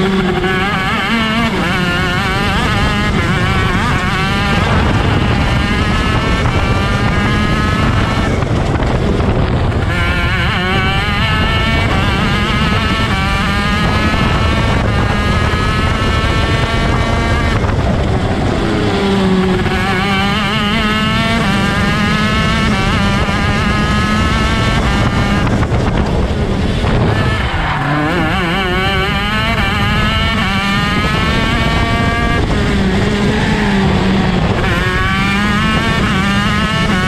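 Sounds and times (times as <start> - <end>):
two-stroke kart engine racing: 0.0 - 37.0.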